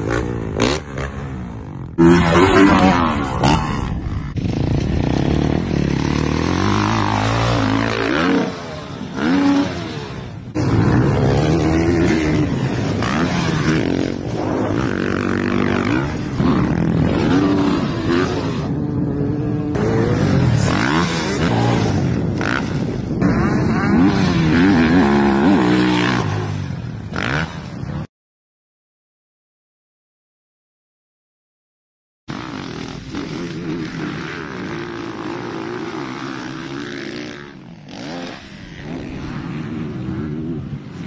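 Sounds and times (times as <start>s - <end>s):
dirt bike engines revving: 0.0s - 28.1s, 32.3s - 41.0s
quad bike engines revving: 0.0s - 28.1s, 32.3s - 41.0s.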